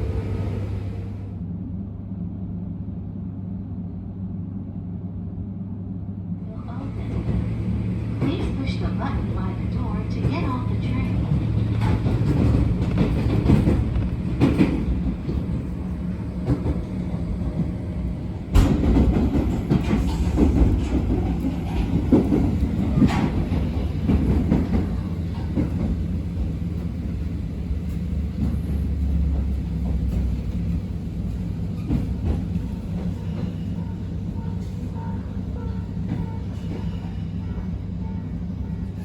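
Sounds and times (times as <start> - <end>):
train rumble and hum: 0.0 - 39.0.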